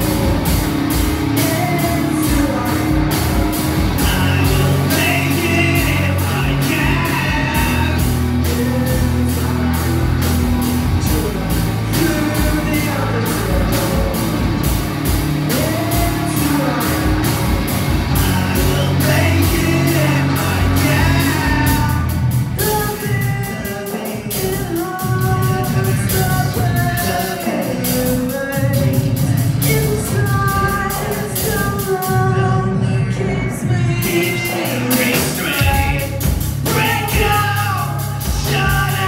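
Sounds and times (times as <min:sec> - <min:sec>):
drum kit beat: 0:00.0 - 0:39.0
electric guitars: 0:00.0 - 0:39.0
vocalist singing: 0:00.0 - 0:39.0.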